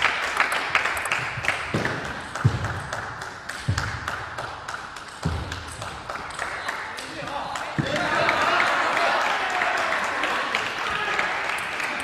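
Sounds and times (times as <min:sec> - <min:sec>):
crowd clapping rhythmically: 0:00.0 - 0:12.0.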